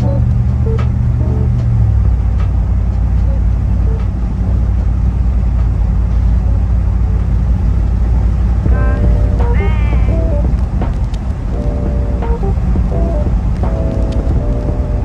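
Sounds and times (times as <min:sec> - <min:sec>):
van engine and tyre drone: 0:00.0 - 0:15.0.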